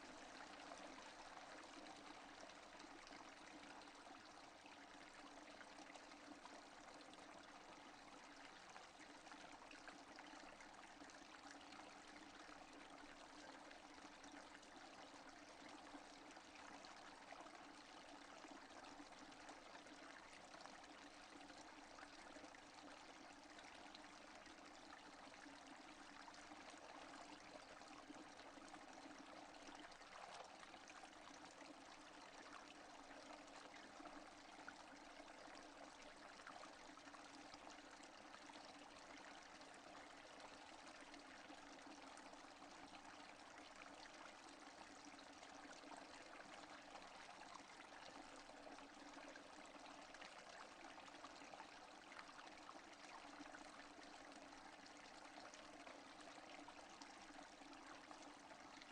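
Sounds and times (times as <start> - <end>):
faint steady rain: 0.0 - 58.9.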